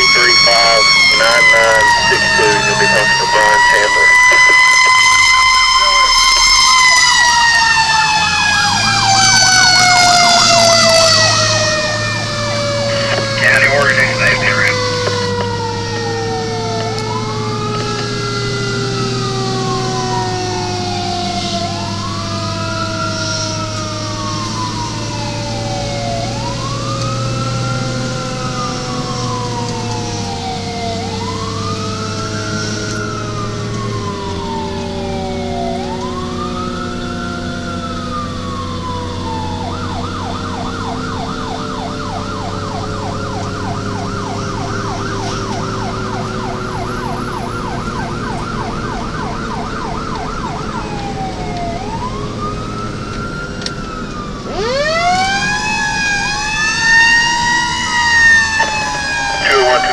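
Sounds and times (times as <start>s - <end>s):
siren wailing and yelping: 0.0s - 27.3s, 29.8s - 59.9s.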